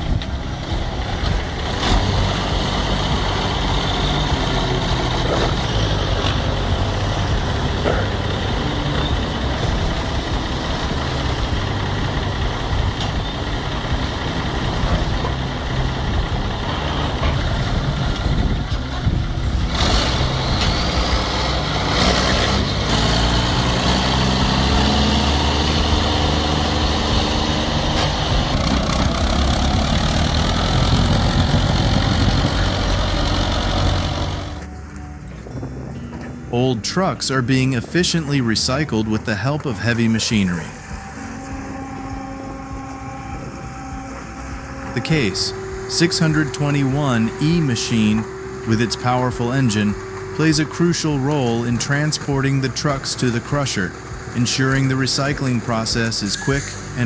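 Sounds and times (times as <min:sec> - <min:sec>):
heavy vehicle engine running: 0:00.0 - 0:57.0.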